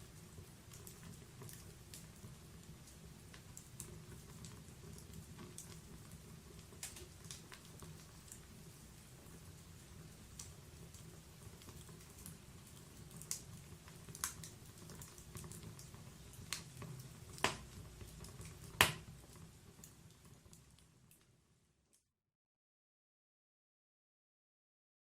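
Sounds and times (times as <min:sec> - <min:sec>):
low rumble of flames: 0:00.0 - 0:21.3
fire crackling and popping: 0:00.0 - 0:21.4.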